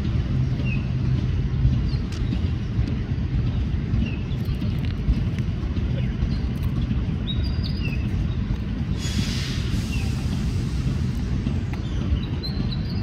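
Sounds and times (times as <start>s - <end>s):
train cars rumbling on rails: 0.0s - 13.0s.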